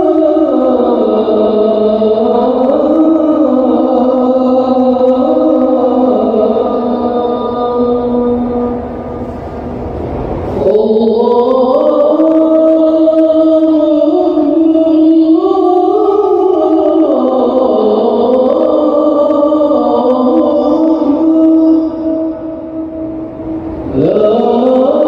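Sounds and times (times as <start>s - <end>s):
person chanting long notes: 0.0s - 9.8s, 10.4s - 25.0s.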